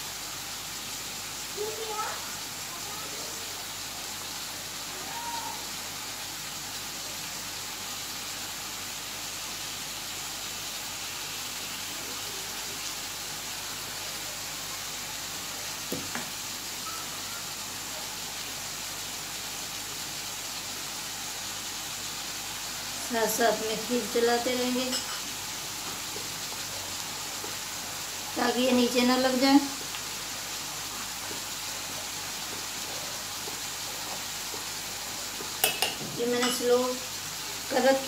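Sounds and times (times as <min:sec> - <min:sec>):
greens sizzling in a pan: 0:00.0 - 0:38.0.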